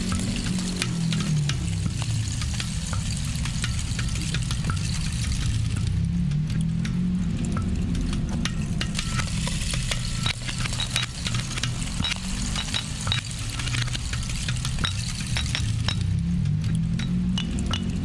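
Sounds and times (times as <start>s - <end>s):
crackling clicks and high pings: 0.0s - 18.0s
low droning loop: 0.0s - 18.0s.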